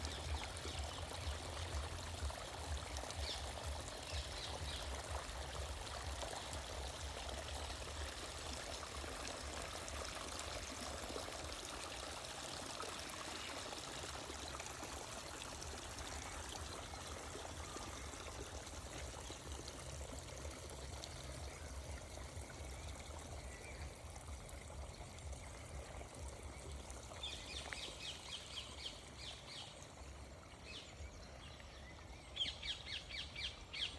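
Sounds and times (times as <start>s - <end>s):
water running and pouring: 0.0s - 30.6s.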